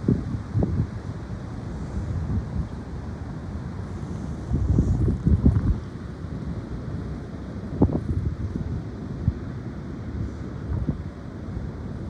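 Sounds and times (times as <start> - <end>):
wind gusting against microphone: 0.0 - 12.0.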